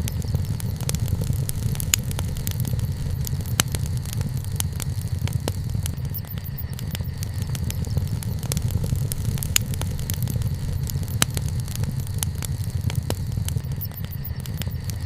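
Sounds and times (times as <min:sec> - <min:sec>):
wood bonfire crackling and popping: 0:00.0 - 0:15.0.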